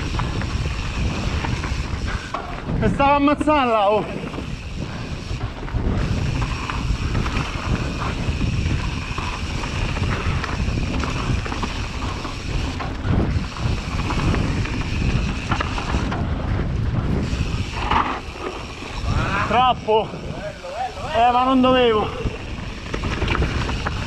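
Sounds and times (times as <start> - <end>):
bike rattling and knocking: 0.0 - 24.0
bike tyres rolling on dirt: 0.0 - 24.0
wind on microphone: 0.0 - 24.0.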